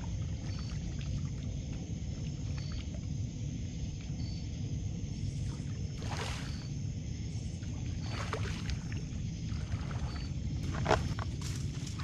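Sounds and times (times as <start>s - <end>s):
water splashing: 0.0s - 3.2s, 5.2s - 12.0s
steady low rumble: 0.0s - 12.0s.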